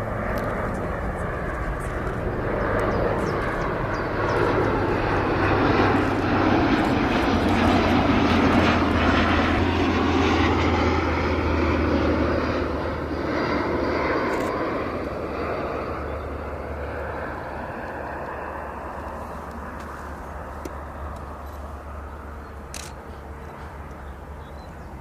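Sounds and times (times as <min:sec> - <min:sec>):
jet engines rushing: 0:00.0 - 0:25.0
low hum: 0:00.0 - 0:25.0.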